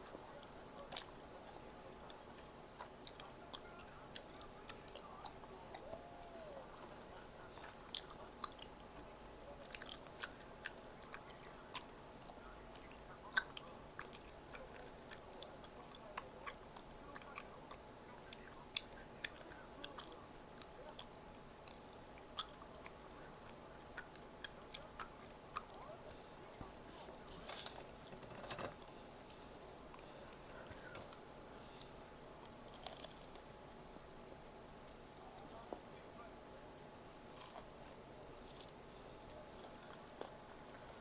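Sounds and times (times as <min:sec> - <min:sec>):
mouth clicks and crunches: 0:00.0 - 0:06.2, 0:06.8 - 0:33.8, 0:37.2 - 0:41.0
person chewing food: 0:00.0 - 0:35.9, 0:37.0 - 0:41.0.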